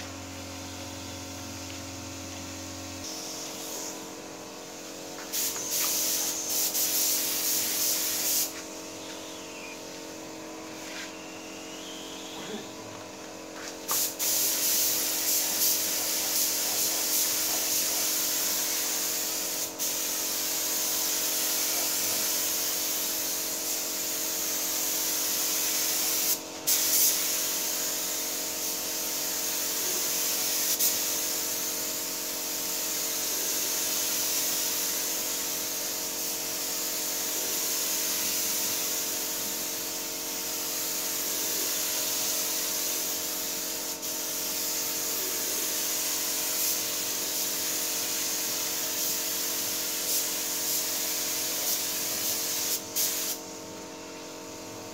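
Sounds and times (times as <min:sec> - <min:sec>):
paint spray gun hissing: 0:00.0 - 0:54.9.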